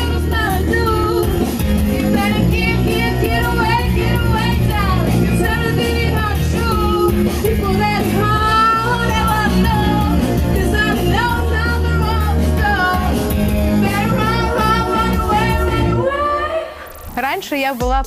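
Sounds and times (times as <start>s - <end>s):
instrumental backing: 0.0s - 16.6s
woman singing into microphone: 0.0s - 16.9s.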